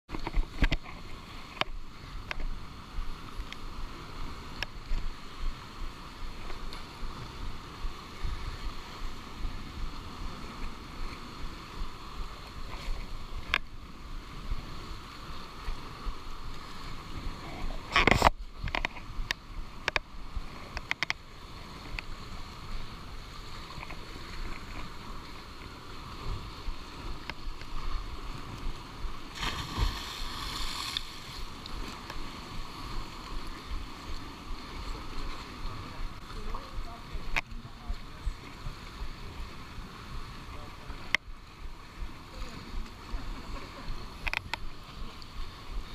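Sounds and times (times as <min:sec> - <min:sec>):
wind and sea wash: 0:00.1 - 0:45.9.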